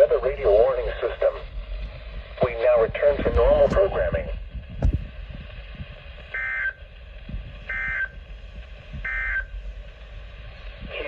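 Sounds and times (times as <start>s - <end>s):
low radio hum: 0.0s - 11.0s.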